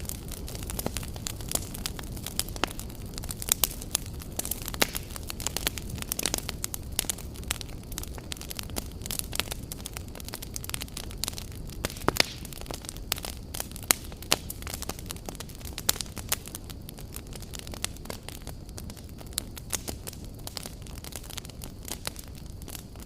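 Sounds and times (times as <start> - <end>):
burning logs crackling and popping: 0.0 - 23.0
low rumble of flames: 0.0 - 23.0.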